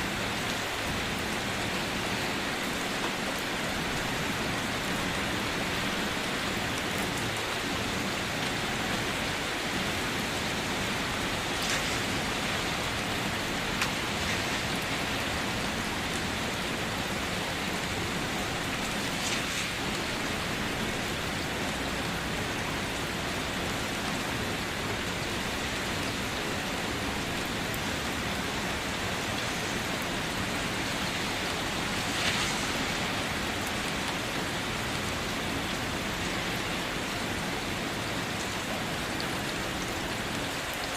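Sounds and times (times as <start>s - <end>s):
rain drumming on a car: 0.0s - 40.9s.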